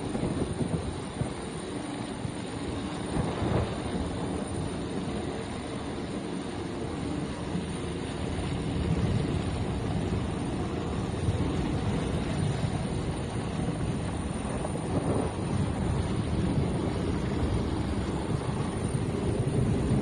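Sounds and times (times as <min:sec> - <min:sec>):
helicopter rotor rumble: 0:00.0 - 0:20.0.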